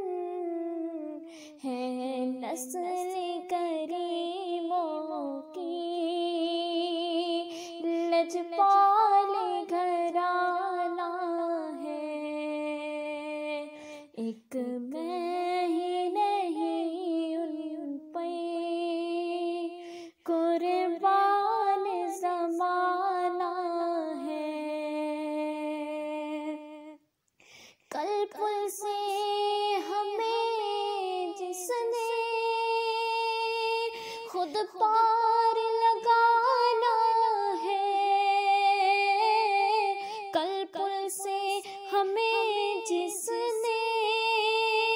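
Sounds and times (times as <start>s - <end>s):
woman singing unaccompanied: 0.0s - 27.0s, 27.9s - 44.9s.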